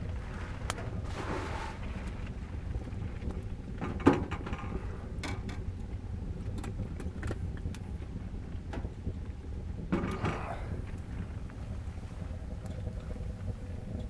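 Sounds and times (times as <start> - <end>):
woodstove low rumble: 0.0 - 14.0.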